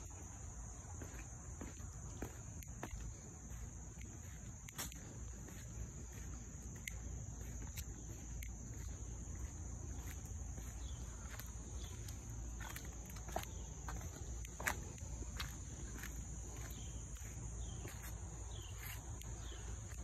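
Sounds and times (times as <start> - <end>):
footsteps on concrete: 0.0 - 20.0
high-pitched insect chorus: 0.0 - 20.0.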